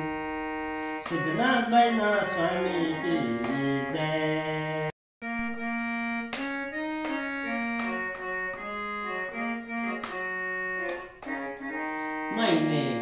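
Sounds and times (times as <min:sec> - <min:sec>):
electronic keyboard organ melody: 0:00.0 - 0:13.0.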